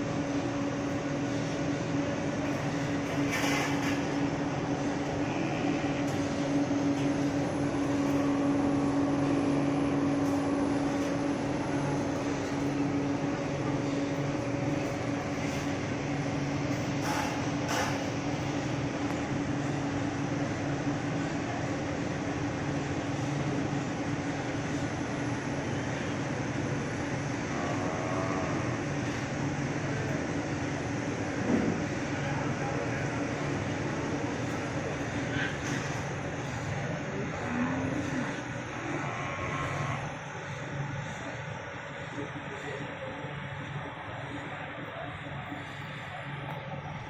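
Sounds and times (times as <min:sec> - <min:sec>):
constant low hum: 0:00.0 - 0:47.0.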